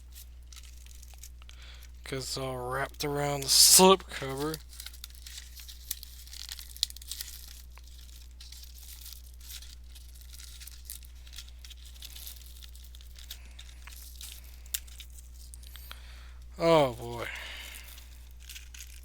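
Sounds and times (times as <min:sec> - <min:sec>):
plastic wrap tearing and crinkling: 0:00.0 - 0:02.0, 0:03.4 - 0:16.2, 0:17.2 - 0:19.0.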